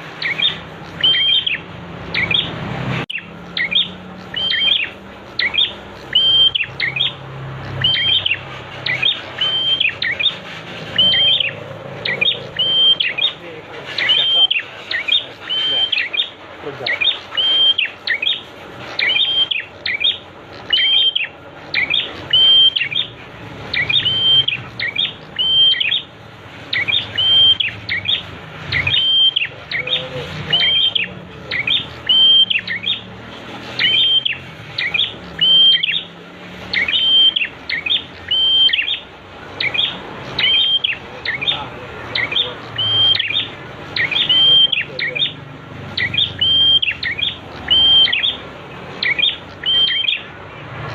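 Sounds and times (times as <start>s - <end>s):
bird repeating high call: 0.2s - 2.5s, 3.1s - 33.1s, 33.7s - 50.3s.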